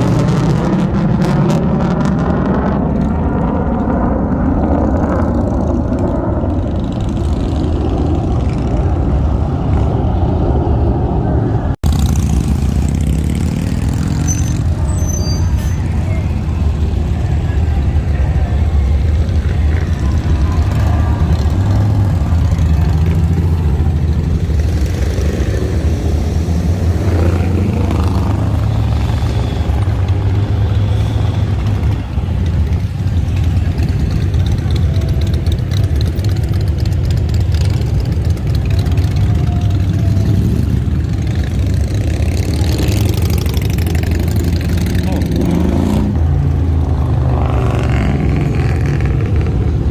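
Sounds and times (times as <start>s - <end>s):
motorcycle engines rumbling: 0.0s - 49.9s.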